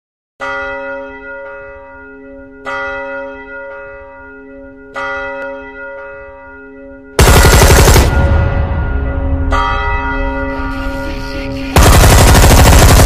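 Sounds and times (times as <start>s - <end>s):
deep bell ringing: 0.4s - 11.9s.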